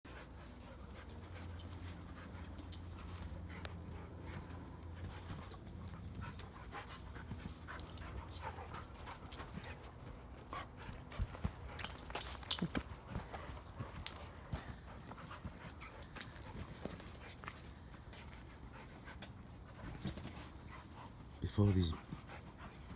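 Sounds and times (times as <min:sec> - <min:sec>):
dogs panting and scuffling: 0:00.1 - 0:22.9.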